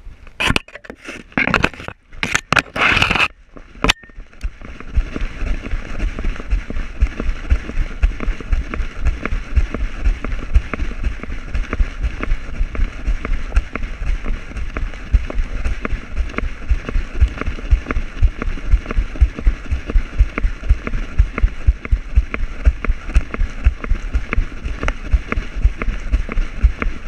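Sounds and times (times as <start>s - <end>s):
steady rushing noise: 2.9s - 27.0s.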